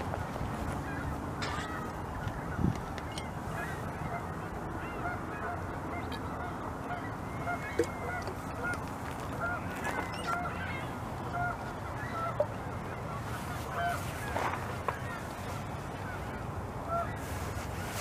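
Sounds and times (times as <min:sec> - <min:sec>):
geese honking: 0:00.0 - 0:18.0
steady background noise: 0:00.0 - 0:18.0.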